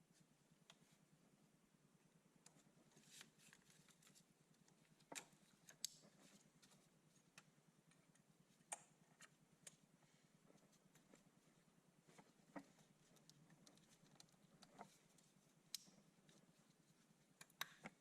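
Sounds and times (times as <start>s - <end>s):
faint clicks and taps: 2.4s - 11.3s, 12.0s - 18.0s.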